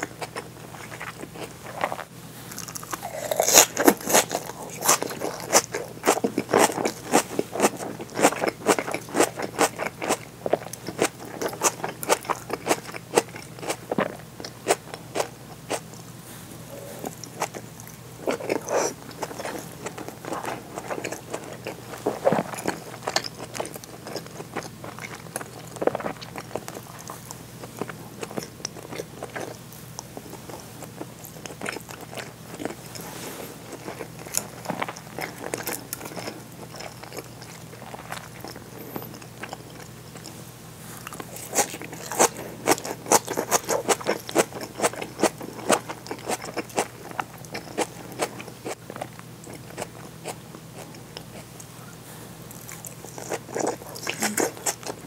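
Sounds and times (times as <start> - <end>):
food crunching: 0.0 - 40.4, 41.0 - 51.7, 52.4 - 55.0
wet chewing: 0.0 - 40.4, 41.0 - 51.7, 52.5 - 55.0.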